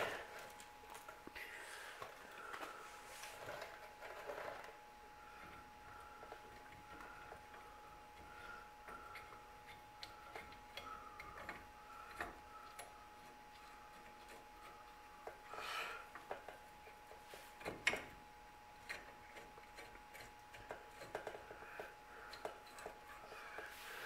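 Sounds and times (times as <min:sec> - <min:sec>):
steady thin hum: 0:00.0 - 0:24.0.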